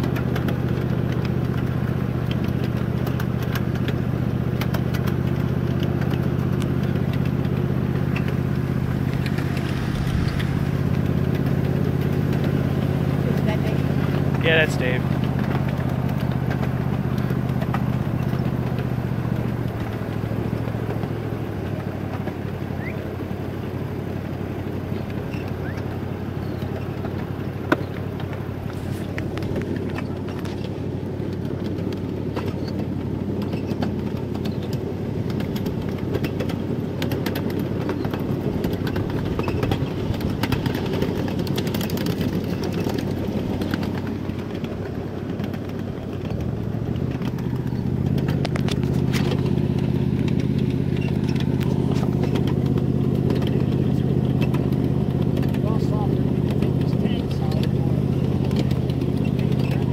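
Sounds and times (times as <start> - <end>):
low engine hum: 0.0 - 59.9
train wheels rumbling on rails: 0.0 - 59.9.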